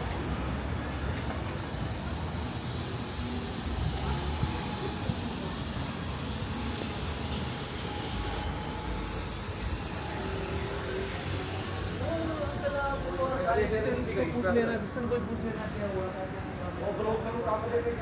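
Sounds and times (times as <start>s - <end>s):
vehicles passing: 0.0s - 18.0s.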